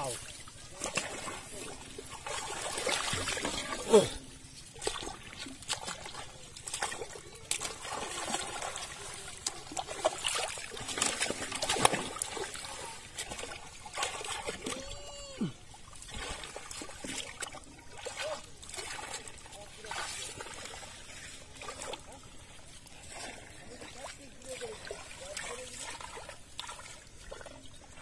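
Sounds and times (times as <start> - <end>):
water splashing: 0.0 - 28.0.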